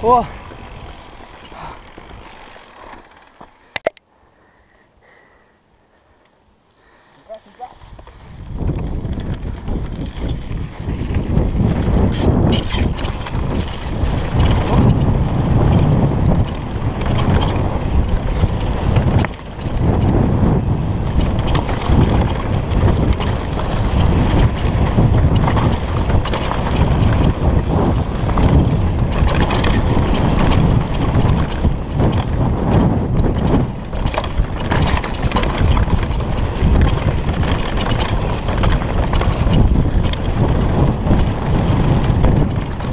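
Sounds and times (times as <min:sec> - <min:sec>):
wind buffeting microphone: 0:00.0 - 0:02.6, 0:06.8 - 0:42.9
bike rattling over rough trail: 0:00.0 - 0:03.9, 0:06.8 - 0:42.9
bike tyre noise: 0:00.0 - 0:42.9.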